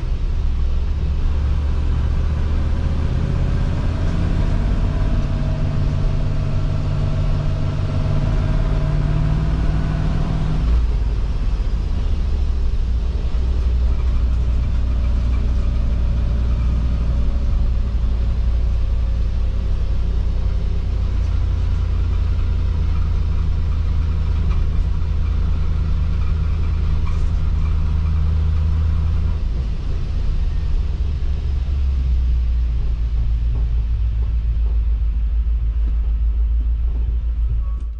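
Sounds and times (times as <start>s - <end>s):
car engine drone from inside cab: 0.0s - 37.9s.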